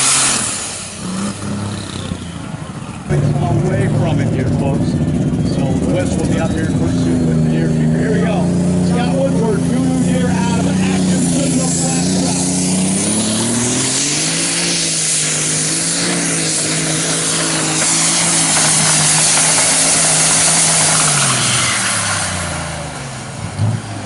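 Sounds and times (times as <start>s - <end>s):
tractor engine running flat out: 0.0s - 23.3s.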